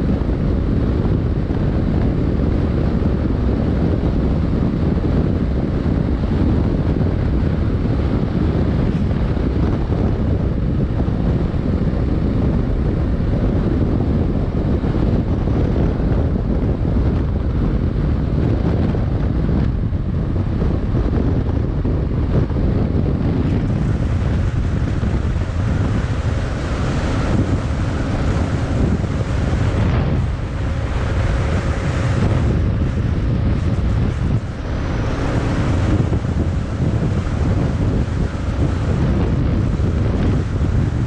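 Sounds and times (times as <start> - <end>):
motorcycle engine running: 0.0 - 41.0
wind buffeting microphone: 0.0 - 41.0.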